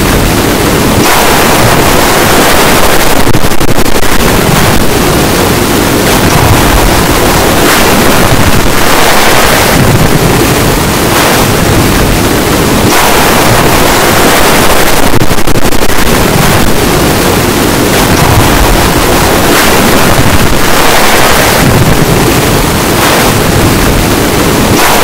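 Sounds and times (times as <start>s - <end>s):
loud steady rushing noise: 0.0s - 25.0s.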